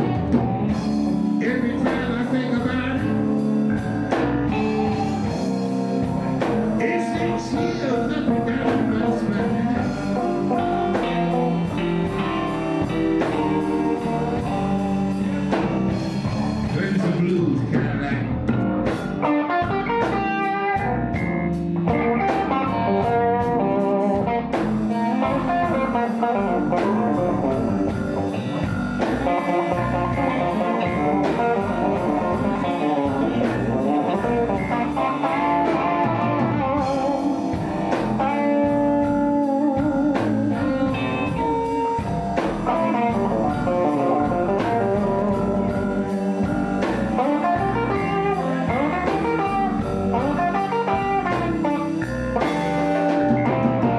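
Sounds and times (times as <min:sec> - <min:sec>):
electric blues band playing: 0:00.0 - 0:53.9.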